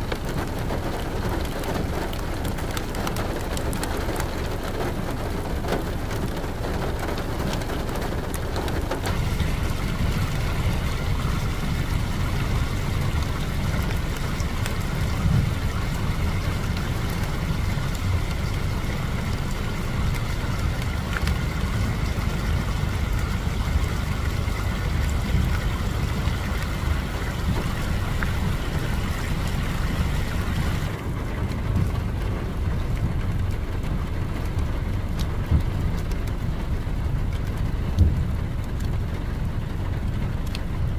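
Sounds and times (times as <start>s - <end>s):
car road and engine rumble: 0.0s - 40.9s
rain and wet tyres hissing: 0.0s - 40.9s
raindrop ticks: 0.0s - 40.9s.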